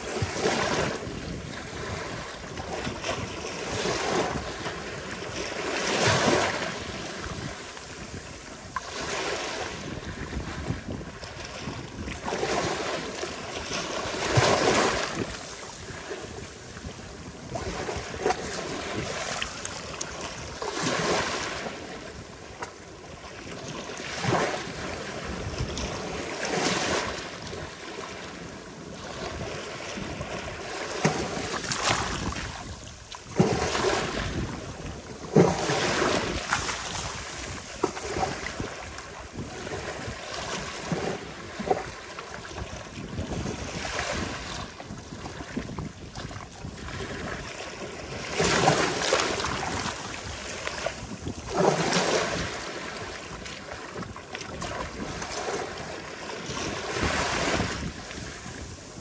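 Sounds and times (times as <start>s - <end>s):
ocean waves crashing on beach: 0.0s - 59.0s.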